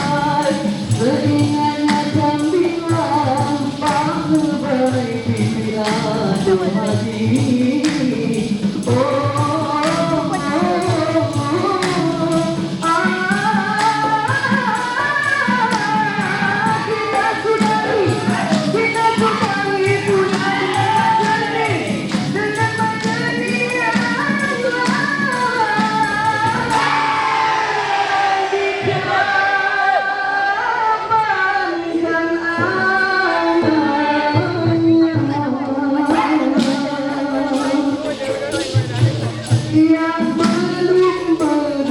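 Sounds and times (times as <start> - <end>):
steady percussion beat: 0.0 - 29.8, 34.4 - 41.9
backing music: 0.0 - 30.1, 35.4 - 41.9
vocal group singing in harmony: 0.0 - 41.9.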